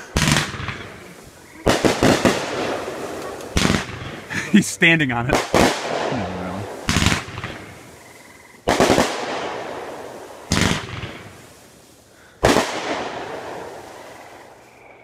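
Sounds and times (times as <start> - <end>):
fireworks bangs: 0.0 - 8.0, 8.6 - 11.8, 12.4 - 14.5.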